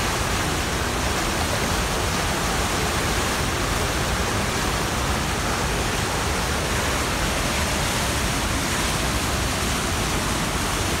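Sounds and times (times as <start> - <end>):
rapids rushing over waterfall: 0.0 - 11.0.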